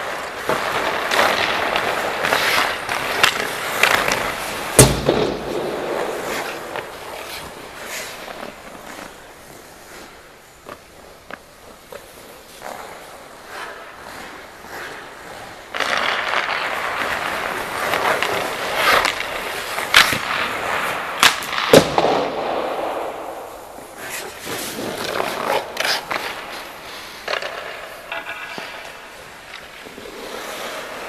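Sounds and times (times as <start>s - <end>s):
ice skate blades scraping: 0.0s - 31.0s.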